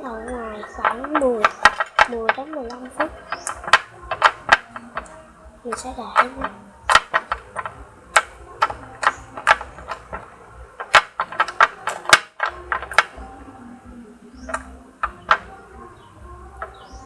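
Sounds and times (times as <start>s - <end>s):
sharp clicks and taps: 0.3s - 13.3s, 14.4s - 15.8s.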